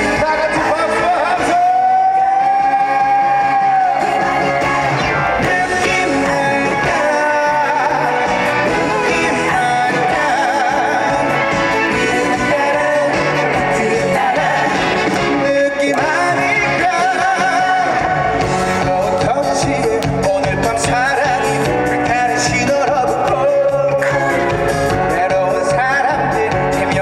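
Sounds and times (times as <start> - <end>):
loud backing music: 0.0 - 27.0
man singing with vibrato: 0.0 - 27.0.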